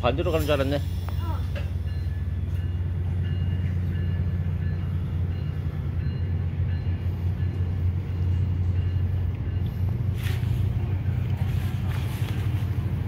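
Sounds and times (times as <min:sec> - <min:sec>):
train wheels rolling: 0:00.0 - 0:13.0.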